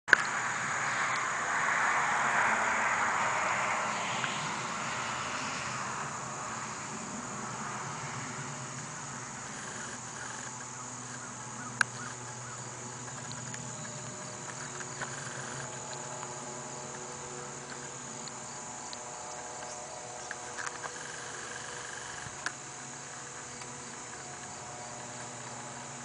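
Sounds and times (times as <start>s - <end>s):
insects chirring: 0.1s - 26.0s
steady low hum: 0.1s - 26.0s.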